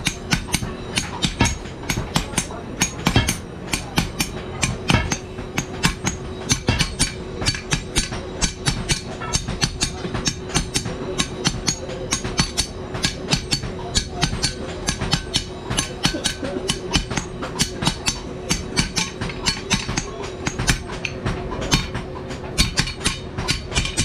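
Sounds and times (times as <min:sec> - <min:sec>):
hammers striking metal on anvil: 0:00.0 - 0:24.0.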